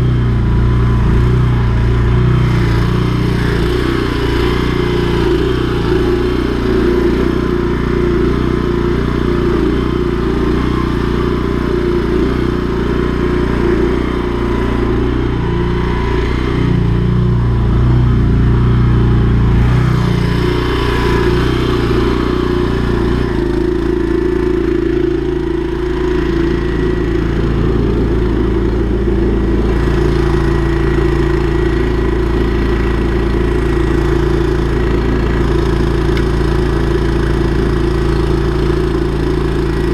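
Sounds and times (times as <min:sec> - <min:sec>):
drain jetting machine engine: 0:00.0 - 0:39.9.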